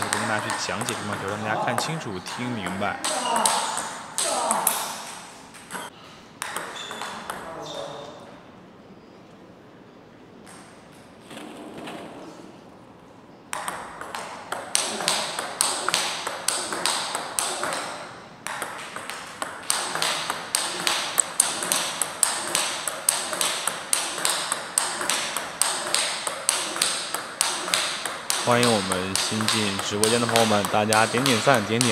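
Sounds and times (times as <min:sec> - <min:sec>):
table tennis ball clicks: 0:00.0 - 0:07.5, 0:13.5 - 0:31.9.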